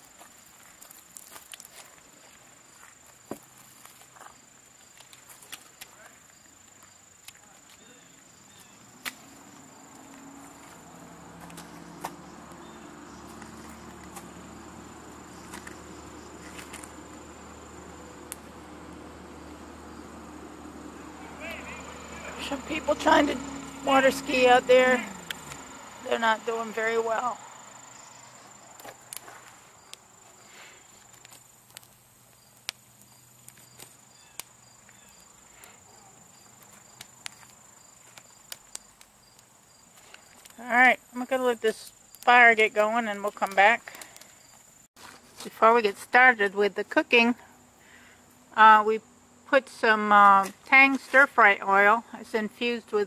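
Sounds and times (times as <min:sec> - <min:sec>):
wood fire crackling: 0:00.0 - 0:51.8
insect drone: 0:00.0 - 0:52.8.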